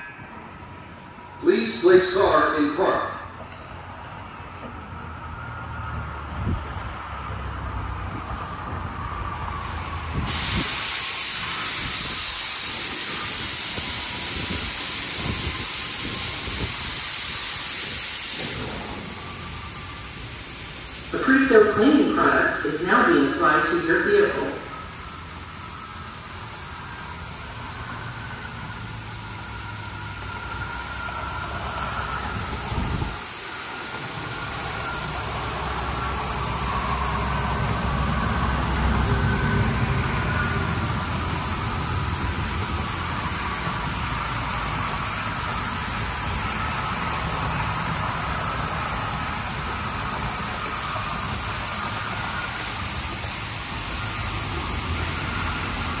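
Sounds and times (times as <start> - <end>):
car wash spray hissing: 9.6 - 56.0.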